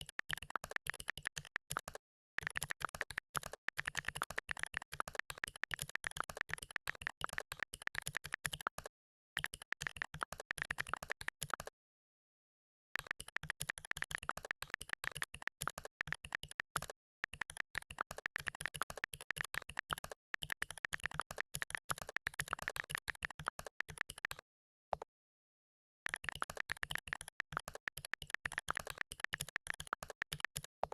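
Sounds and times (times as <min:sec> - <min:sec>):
fast keyboard typing: 0:00.0 - 0:11.7, 0:13.0 - 0:24.4, 0:26.1 - 0:30.9.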